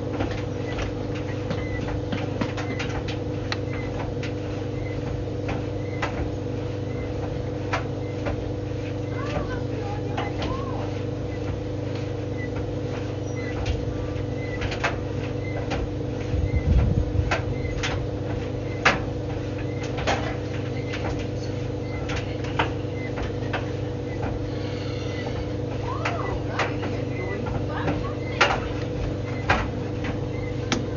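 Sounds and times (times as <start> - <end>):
tumble dryer motor hum: 0.0 - 30.9.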